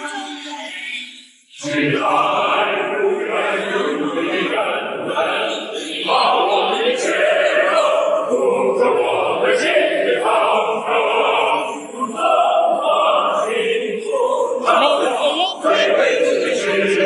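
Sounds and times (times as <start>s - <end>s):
music with choir singing: 1.4s - 14.8s, 15.7s - 17.0s.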